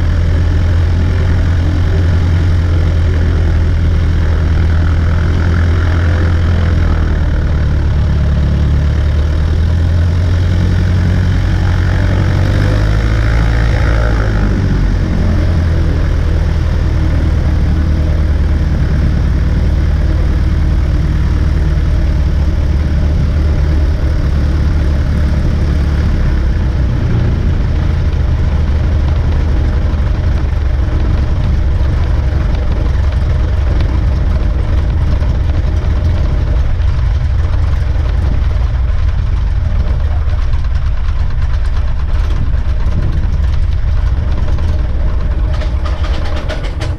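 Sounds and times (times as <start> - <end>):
light aircraft engine and propeller: 0.0 - 46.9.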